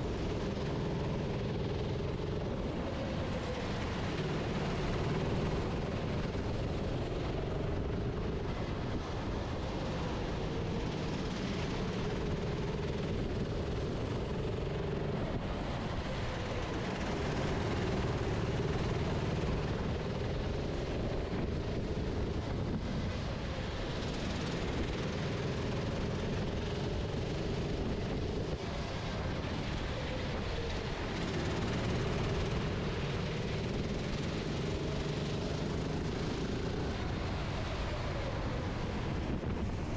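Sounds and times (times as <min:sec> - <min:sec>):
kart engine running: 0:00.0 - 0:39.9
wind noise: 0:02.4 - 0:39.9.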